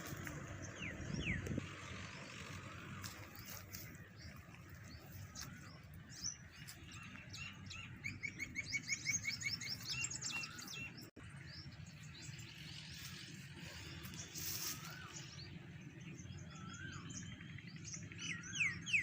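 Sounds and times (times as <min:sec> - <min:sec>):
low background rumble: 0:00.0 - 0:18.5
birds chirping: 0:00.0 - 0:19.0.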